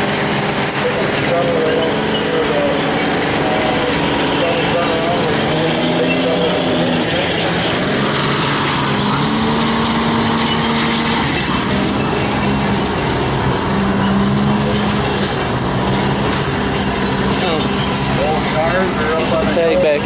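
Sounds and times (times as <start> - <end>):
machinery engines droning: 0.0 - 20.0.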